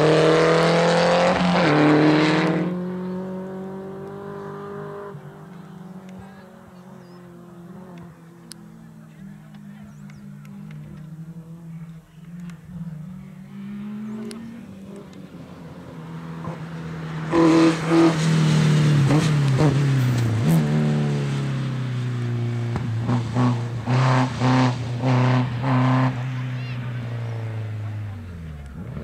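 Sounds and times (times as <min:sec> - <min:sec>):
rally car engine passing: 0:00.0 - 0:29.0.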